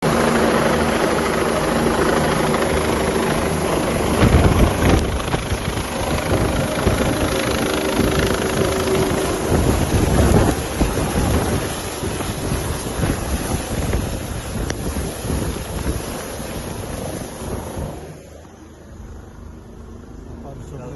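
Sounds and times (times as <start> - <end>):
helicopter engine hum: 0.0 - 20.4
wind buffeting on microphone: 0.1 - 18.4.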